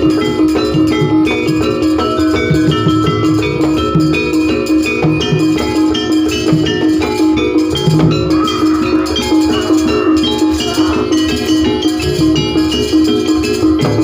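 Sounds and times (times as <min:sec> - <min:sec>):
drums: 0:00.0 - 0:14.0
wavering melody line: 0:00.0 - 0:14.0.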